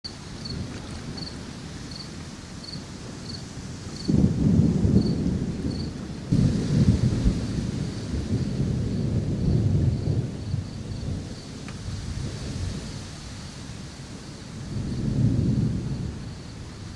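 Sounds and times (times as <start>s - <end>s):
steady rain: 0.0s - 16.9s
thunder rumble: 0.1s - 16.9s.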